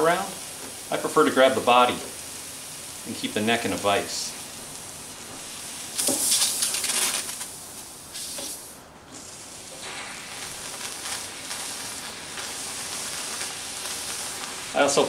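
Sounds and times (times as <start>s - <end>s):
steam hissing from a wand: 0.0s - 15.0s.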